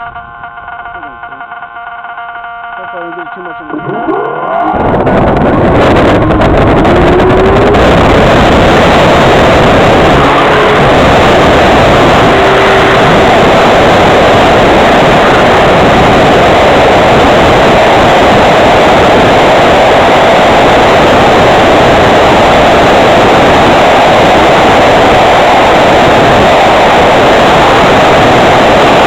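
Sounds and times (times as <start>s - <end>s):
propeller noise: 0.0s - 29.0s
wind rushing: 3.9s - 29.0s.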